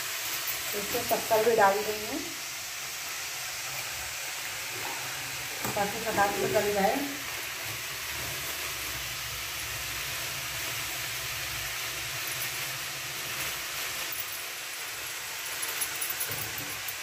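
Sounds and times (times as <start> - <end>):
carrots sizzling in hot oil: 0.0 - 17.0.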